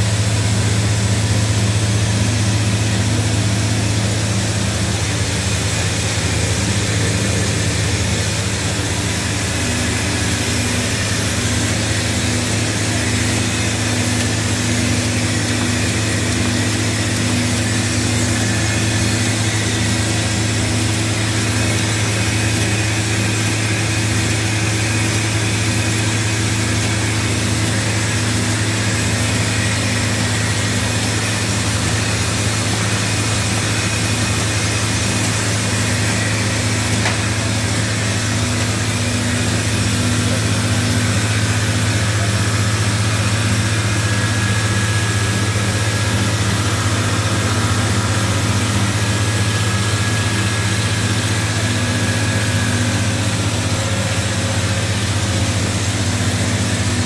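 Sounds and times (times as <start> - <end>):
machine running with low hum: 0.0 - 57.0.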